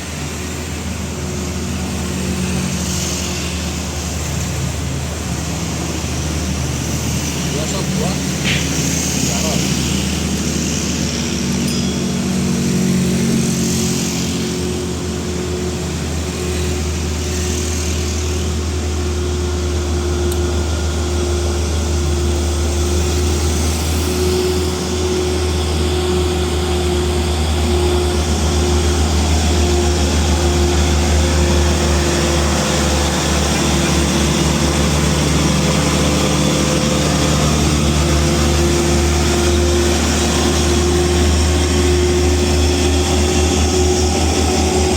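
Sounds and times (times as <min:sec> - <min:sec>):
constant higher hum: 0:00.0 - 0:44.9
diesel engine labouring: 0:00.0 - 0:44.9.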